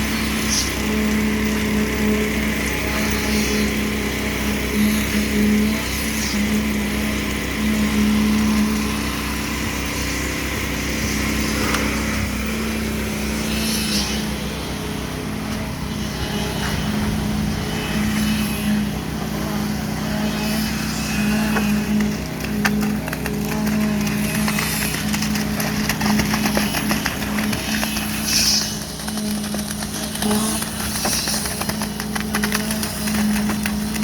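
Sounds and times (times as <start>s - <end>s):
concrete pump engine running: 0.0s - 34.0s.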